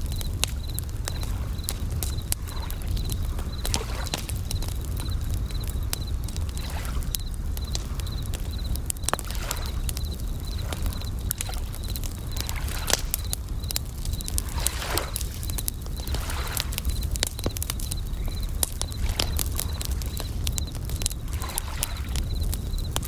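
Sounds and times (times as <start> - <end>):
campfire crackling: 0.0 - 23.0
crickets chirping in trills: 0.0 - 23.0
ocean waves: 0.1 - 17.0, 18.8 - 22.6.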